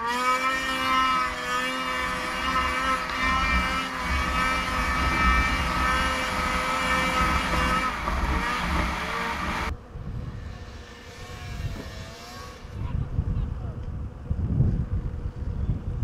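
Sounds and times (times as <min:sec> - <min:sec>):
snowmobile engine running: 0:00.0 - 0:13.5
distant snowmobile engine: 0:00.0 - 0:16.0
snowmobile track noise: 0:00.0 - 0:16.0
rushing wind: 0:00.9 - 0:16.0.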